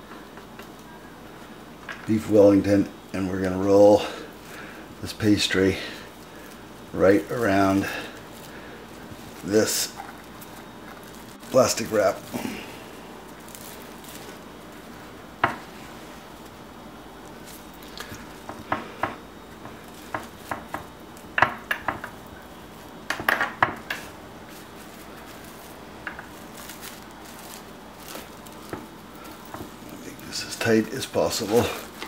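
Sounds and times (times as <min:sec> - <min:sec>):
plastic wrap crinkling: 0:01.6 - 0:32.0.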